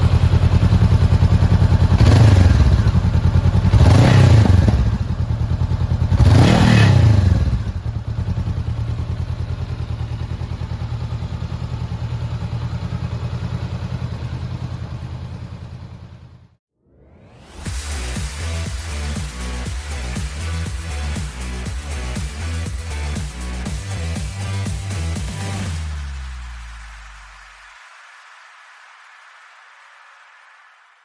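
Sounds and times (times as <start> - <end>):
motorcycle engine revving and idling: 0.0 - 16.6, 17.7 - 26.6.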